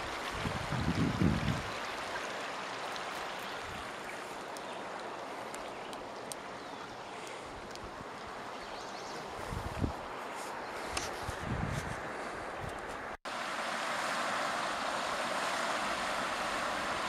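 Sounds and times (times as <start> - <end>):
river water rushing over dam: 0.0 - 10.2, 13.3 - 17.0.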